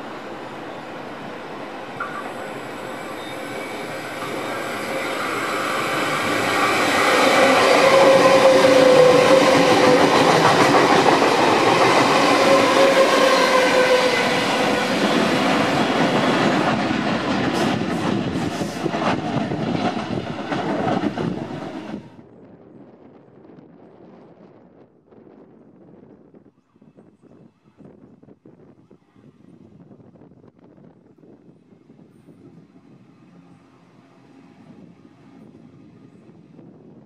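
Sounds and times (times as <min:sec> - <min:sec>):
train passing with whine: 0:00.0 - 0:26.3, 0:27.8 - 0:37.0.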